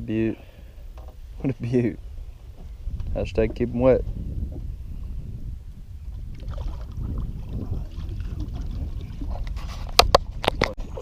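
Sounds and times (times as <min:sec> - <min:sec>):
wind rumble on microphone: 0:01.2 - 0:11.0.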